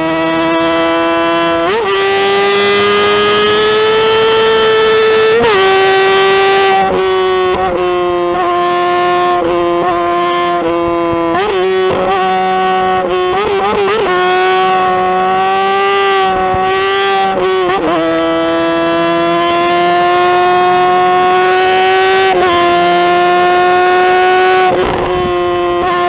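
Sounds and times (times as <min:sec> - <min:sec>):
motorcycle engine revving high: 0:00.0 - 0:26.0.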